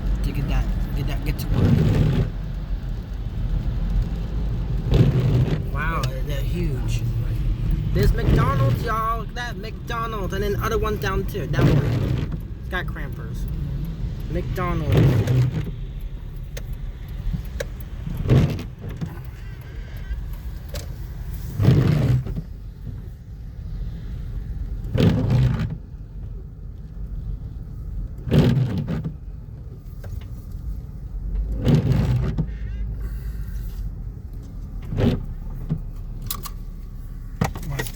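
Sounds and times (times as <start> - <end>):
car cabin road noise: 0.0 - 37.9.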